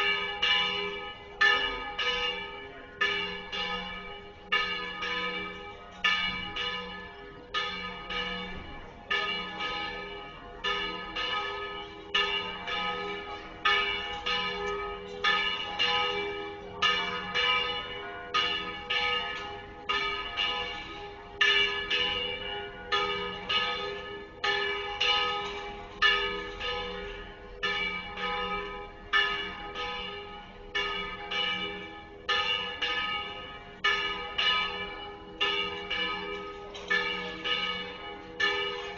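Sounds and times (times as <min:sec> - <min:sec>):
church bells ringing a peal: 0:00.0 - 0:38.9.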